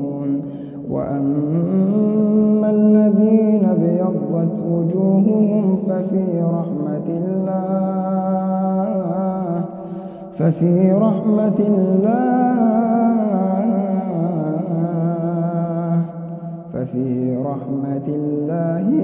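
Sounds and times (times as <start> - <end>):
man chanting recitation: 0.0 - 9.7, 10.3 - 19.0.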